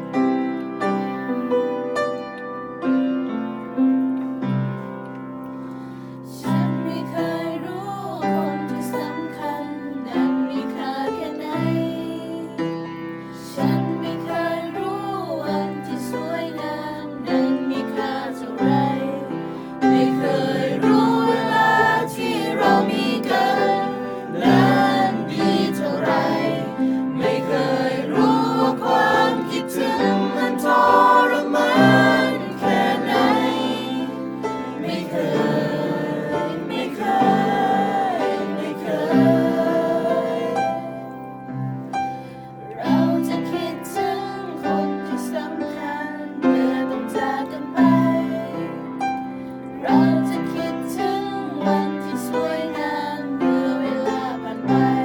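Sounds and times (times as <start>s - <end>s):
piano accompaniment: 0.0s - 55.0s
mixed choir singing: 6.2s - 41.6s, 42.6s - 55.0s.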